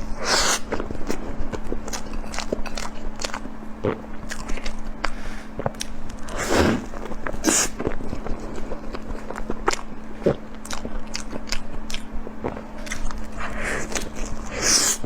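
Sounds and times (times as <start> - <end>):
faint steady hum: 0.0 - 15.0
wet chewing and biting clicks: 0.0 - 15.0.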